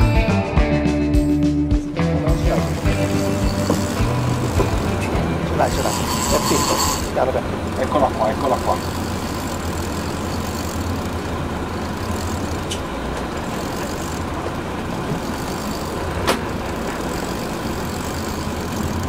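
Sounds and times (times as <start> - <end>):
boat engine rumbling: 1.2 - 19.0.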